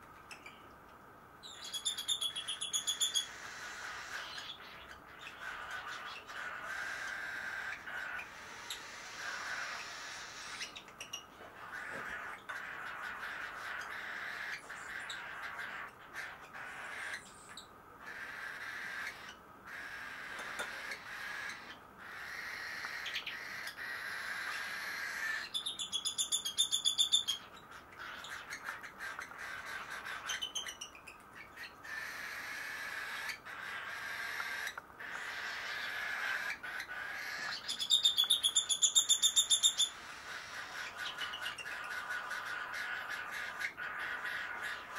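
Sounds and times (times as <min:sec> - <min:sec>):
baby cockatiels begging calls: 0:01.4 - 0:44.9.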